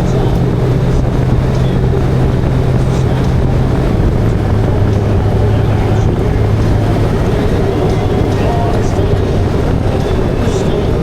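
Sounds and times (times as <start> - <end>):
motorcycle engine droning: 0.0 - 11.0
wind noise: 0.0 - 11.0.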